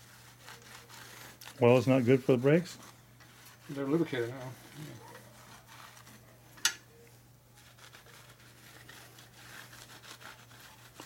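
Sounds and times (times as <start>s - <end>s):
cloth wiping metal disc: 0.0s - 6.4s, 7.5s - 11.0s.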